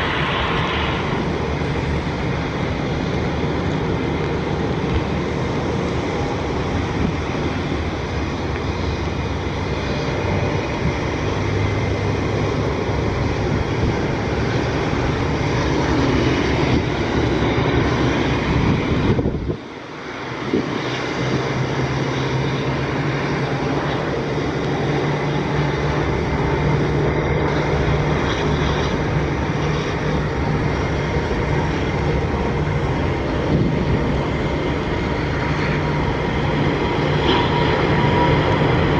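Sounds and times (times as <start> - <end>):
jet engine rush: 0.0 - 38.9.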